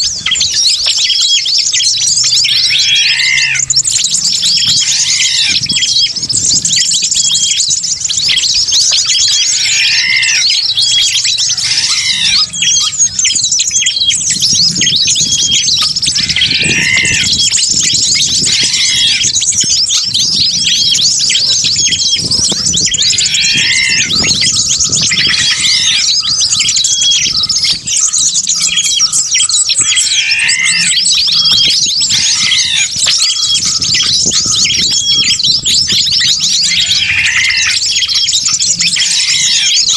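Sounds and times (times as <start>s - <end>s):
high chattering bird chirps: 0.0s - 39.9s
lower falling bird call: 0.0s - 39.9s.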